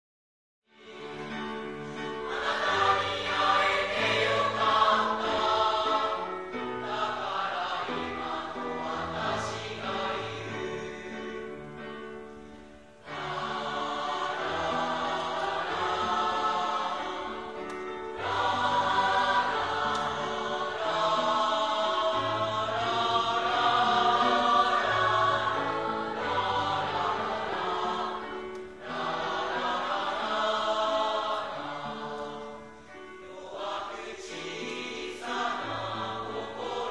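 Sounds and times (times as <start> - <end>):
children's choir singing: 0.7 - 36.9.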